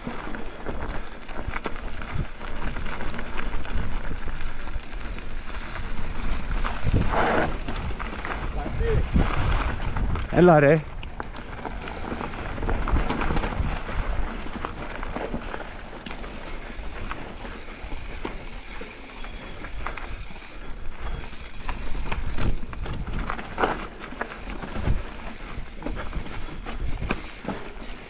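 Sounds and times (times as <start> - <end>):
bike chain and frame rattling: 0.0 - 28.0
bike tyres rumbling over rocks: 0.0 - 28.0.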